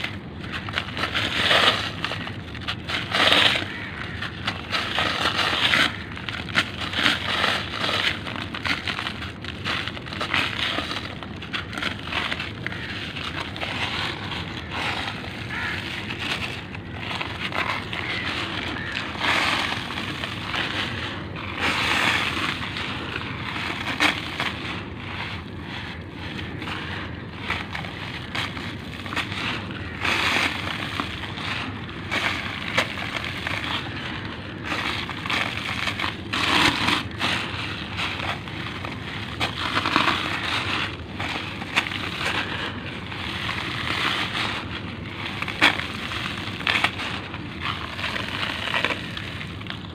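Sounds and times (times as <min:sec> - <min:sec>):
grit pouring onto plastic sheet: 0:00.0 - 0:49.9
gritty concrete crumbling: 0:00.0 - 0:49.9.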